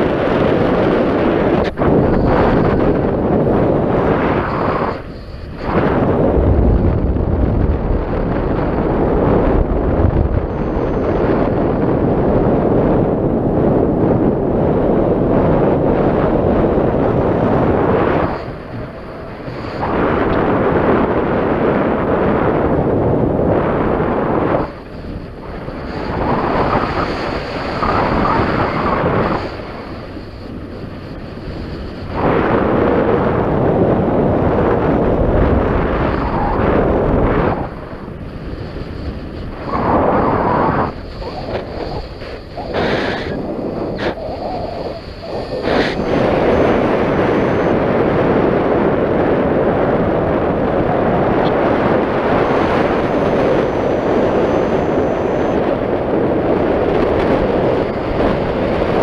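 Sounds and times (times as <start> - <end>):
wind gusts on microphone: 0.0 - 59.0.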